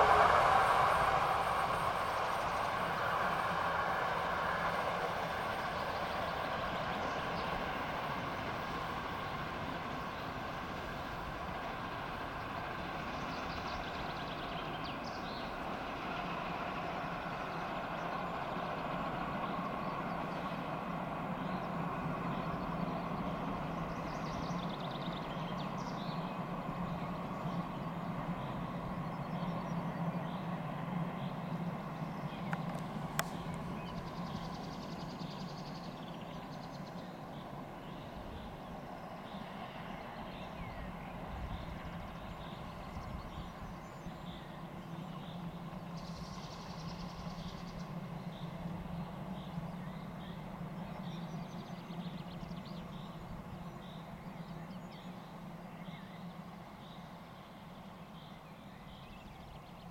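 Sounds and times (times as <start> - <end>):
distant steam locomotive rumble: 0.0 - 59.9.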